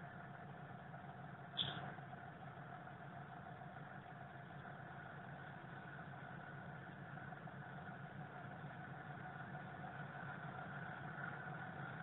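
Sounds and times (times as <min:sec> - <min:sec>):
idling engine drone: 0:00.0 - 0:12.0.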